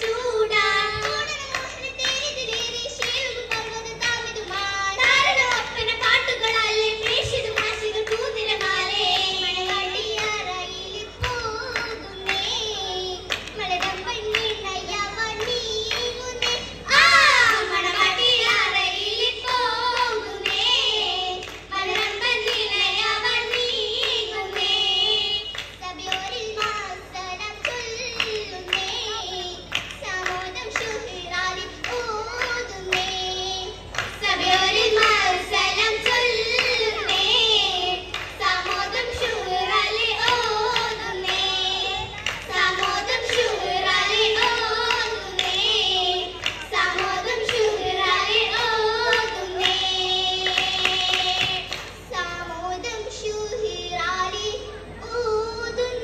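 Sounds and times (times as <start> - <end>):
rhythmic hand clapping: 0.0 - 53.3
girls singing together: 0.0 - 56.0.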